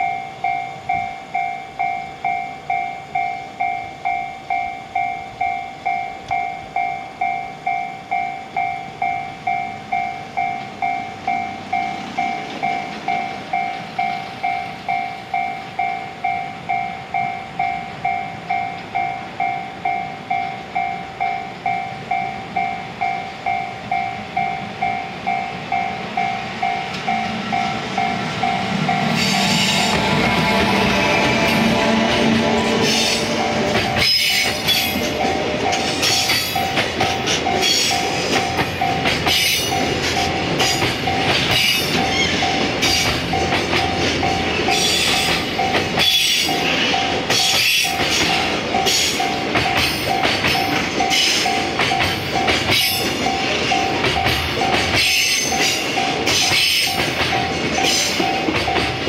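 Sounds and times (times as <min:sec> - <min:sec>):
level crossing bell ringing: 0:00.0 - 0:31.0, 0:31.6 - 0:59.0
freight train rumble: 0:00.0 - 0:59.0
train wheels on rails: 0:00.0 - 0:59.0.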